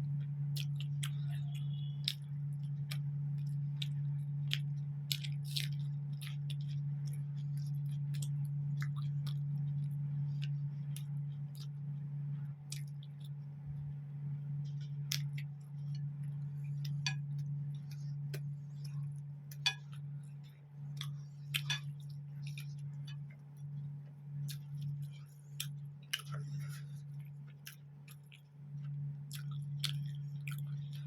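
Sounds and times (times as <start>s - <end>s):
person chewing and smacking food: 0.0s - 31.0s
steady low hum: 0.0s - 31.0s.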